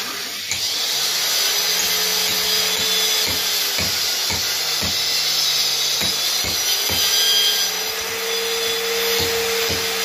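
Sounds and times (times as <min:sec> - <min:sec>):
electric grinder cutting wall: 0:00.0 - 0:10.0.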